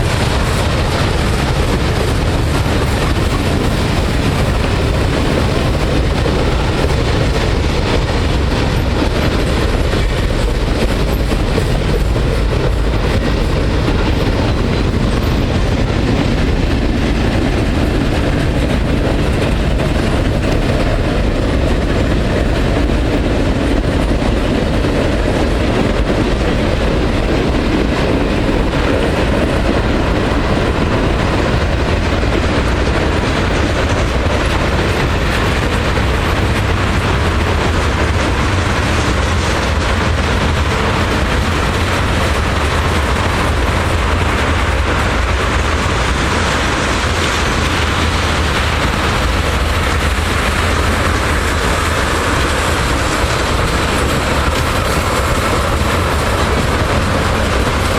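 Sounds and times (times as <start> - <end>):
freight train rumbling past: 0.0 - 57.9.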